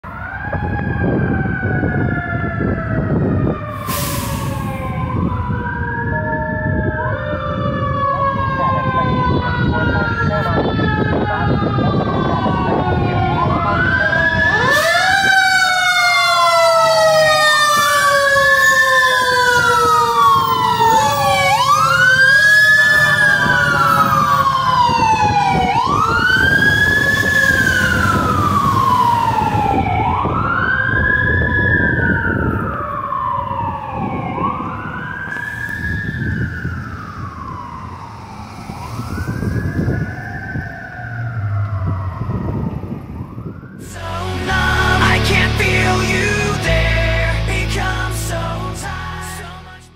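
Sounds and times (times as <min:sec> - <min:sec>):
fire truck sirens wailing: 0:00.0 - 0:49.9.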